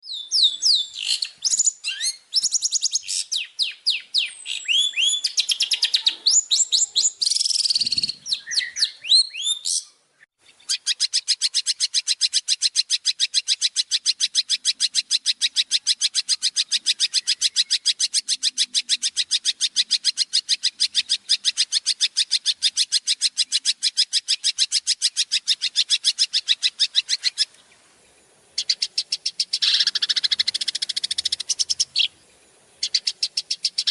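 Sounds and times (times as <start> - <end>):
fast bird trill: 0.0 - 9.9, 10.5 - 27.6, 28.6 - 32.2, 32.8 - 33.9
songbird chirps and whistles: 0.0 - 33.9.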